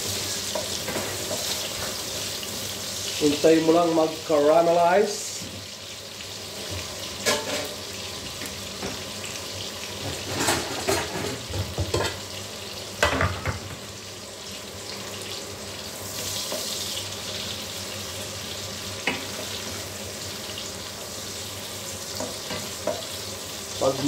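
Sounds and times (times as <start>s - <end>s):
onions sizzling in oil: 0.0s - 24.0s.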